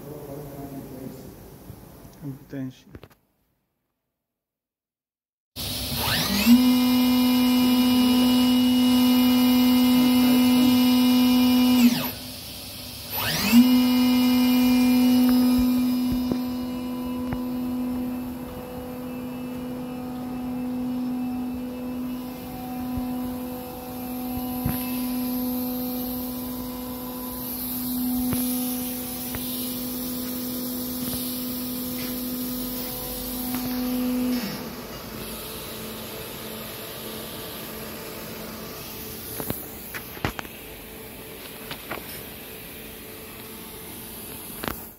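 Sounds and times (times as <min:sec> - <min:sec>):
machine spindle whining: 0:05.6 - 0:44.8.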